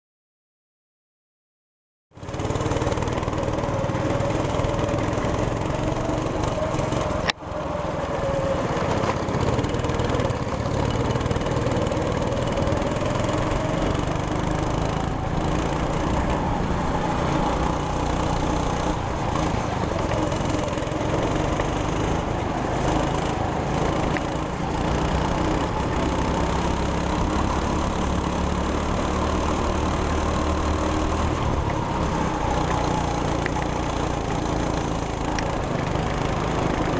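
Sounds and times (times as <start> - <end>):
go-kart engine running: 2.2 - 36.9.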